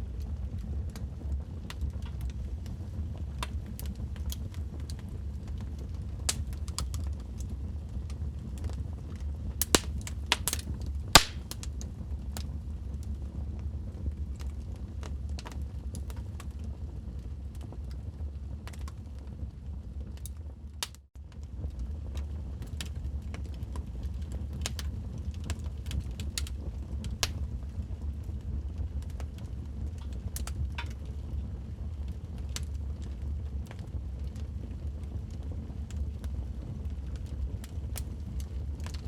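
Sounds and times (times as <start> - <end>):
log fire crackling and popping: 0.1 - 16.8, 17.4 - 19.6, 20.2 - 39.0.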